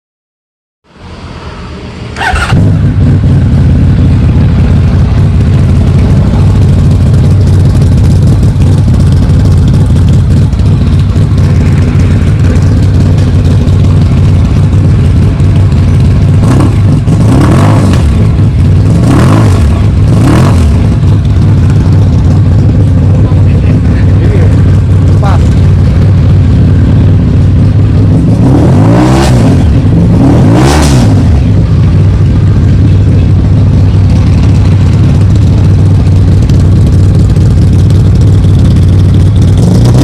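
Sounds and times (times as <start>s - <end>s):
engine throttle blips: 1.1s - 40.0s
motorcycle engine starting: 2.1s - 40.0s
motorcycle engine idling: 2.2s - 28.4s, 31.0s - 40.0s.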